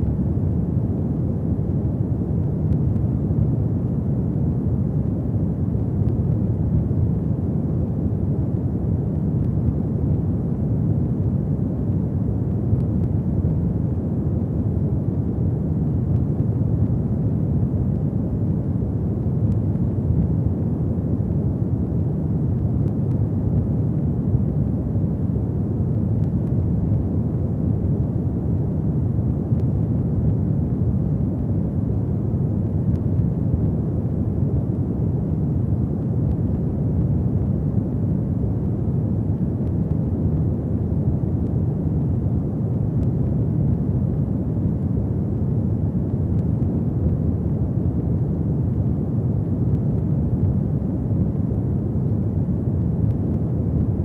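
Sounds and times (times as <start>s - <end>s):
faint fire crackles: 0.0s - 54.0s
low rumble of flames: 0.0s - 54.0s.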